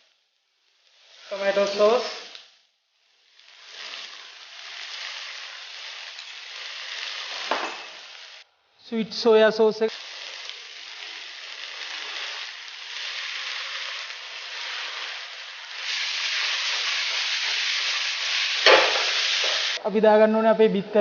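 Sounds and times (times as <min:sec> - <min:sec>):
food sizzling in a hot pan: 0:00.0 - 0:08.5, 0:09.2 - 0:19.8.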